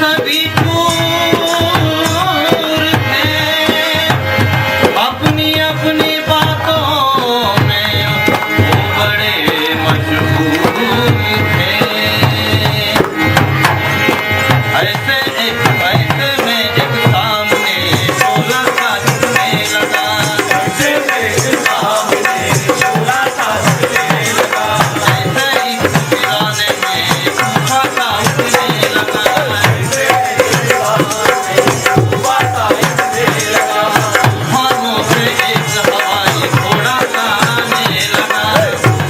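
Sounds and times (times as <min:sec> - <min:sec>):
hand drums: 0:00.0 - 0:39.0.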